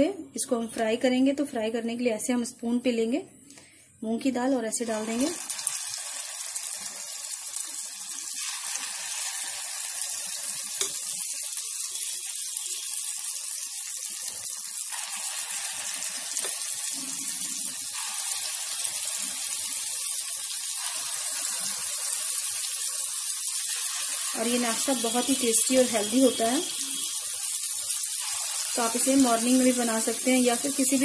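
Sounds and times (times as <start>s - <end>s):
batter sizzling in hot oil: 4.6s - 31.0s.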